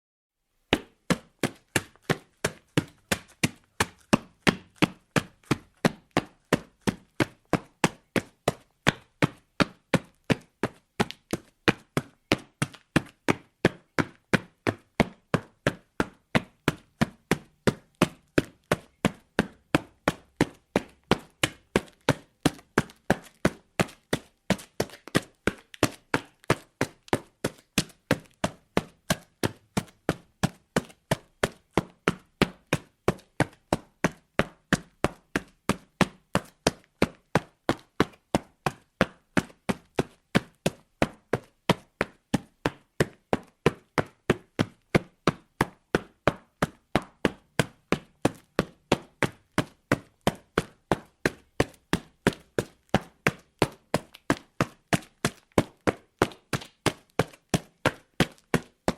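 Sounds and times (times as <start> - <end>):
footsteps running on concrete: 0.7 - 58.9.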